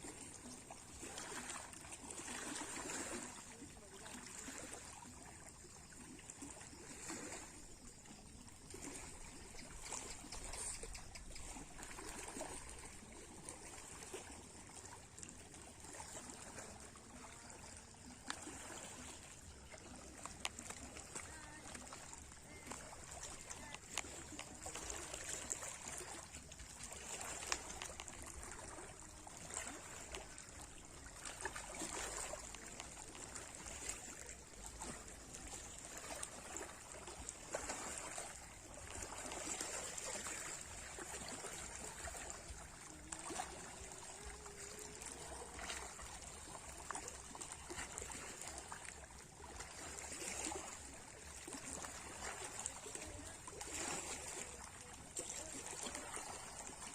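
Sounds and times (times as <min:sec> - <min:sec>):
small waves lapping: 0:00.0 - 0:56.9
water trickling and splashing: 0:00.0 - 0:56.9.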